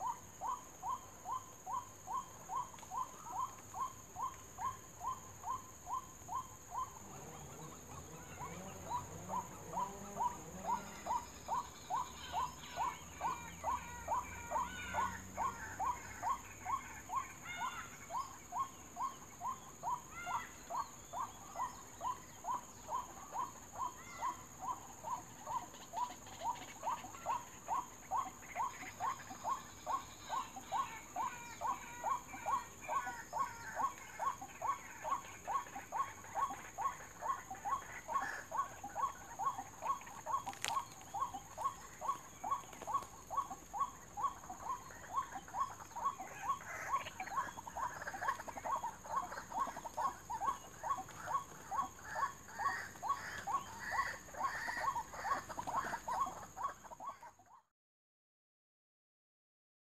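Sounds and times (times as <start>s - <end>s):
repeated bird call: 0.0s - 57.7s.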